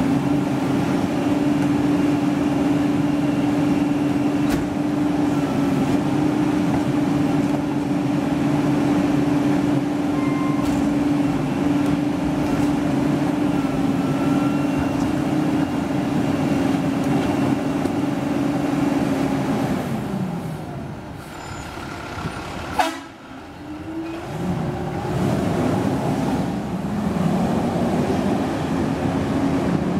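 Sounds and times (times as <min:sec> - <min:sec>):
garbage truck engine droning: 0:00.0 - 0:29.9.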